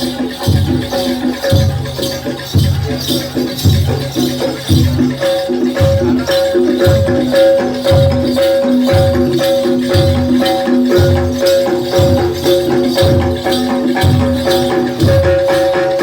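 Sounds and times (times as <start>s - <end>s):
gamelan music: 0.0s - 16.0s
low drum beat: 0.0s - 16.0s
metallophone notes ringing: 0.0s - 16.0s
rattling high percussion: 0.0s - 16.0s.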